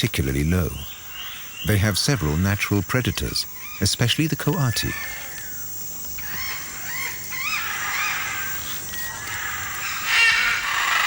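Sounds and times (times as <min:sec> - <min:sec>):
macaws harsh squawks: 0:00.7 - 0:11.0
macaws whistled calls: 0:00.8 - 0:11.0.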